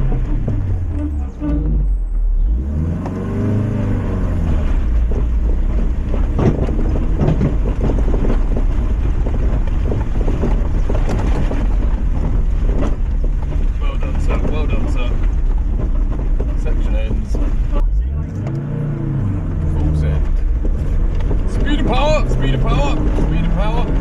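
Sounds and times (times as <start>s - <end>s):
car engine pulling hard: 0.0s - 24.0s
car knocking on rough ground: 0.0s - 24.0s.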